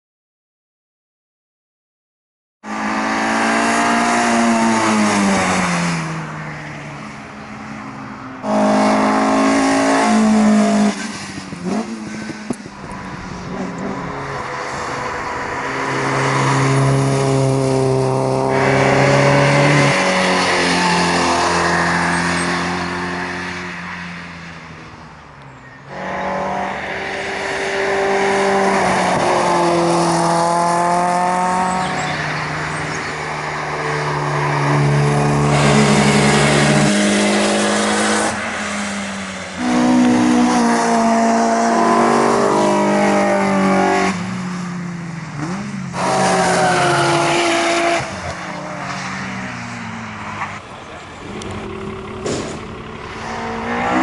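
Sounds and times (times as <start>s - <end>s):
race cars at full throttle: 2.6s - 54.0s.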